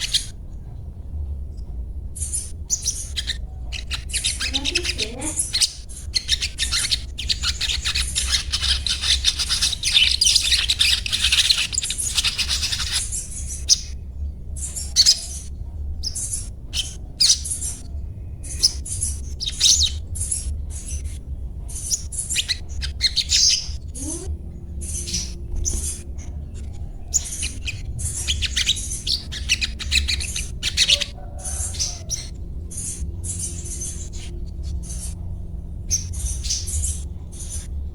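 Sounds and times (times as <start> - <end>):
bird chattering high-pitched calls: 0.0 - 0.4, 2.2 - 14.0, 14.6 - 37.8
steady low hum: 0.0 - 37.9.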